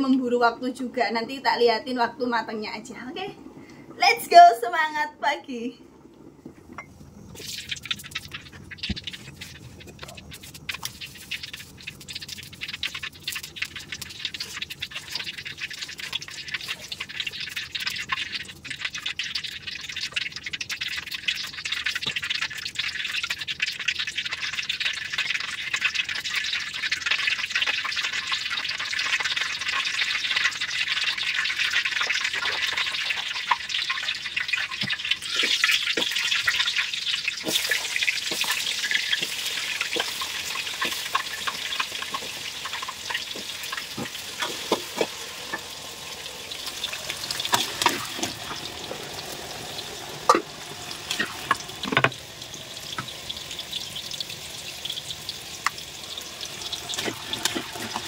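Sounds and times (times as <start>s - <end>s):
potatoes sizzling in oil: 7.0s - 58.0s.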